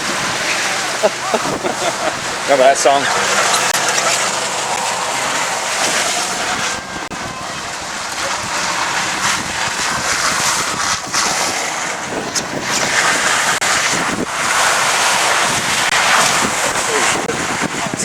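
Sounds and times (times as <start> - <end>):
truck driving on dirt track: 0.0 - 18.0
wind rushing over microphone: 0.0 - 18.0.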